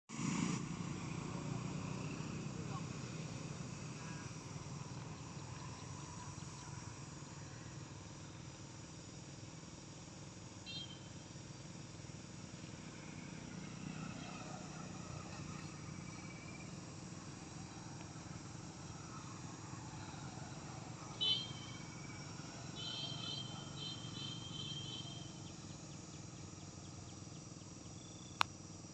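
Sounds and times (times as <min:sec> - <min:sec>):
insects trilling: 0:00.9 - 0:28.9.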